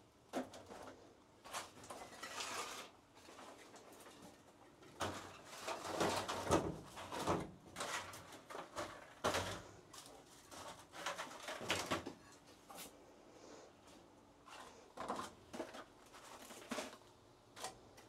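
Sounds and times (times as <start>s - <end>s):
plastic trays rustling and clattering: 0.2s - 12.9s, 13.9s - 18.0s.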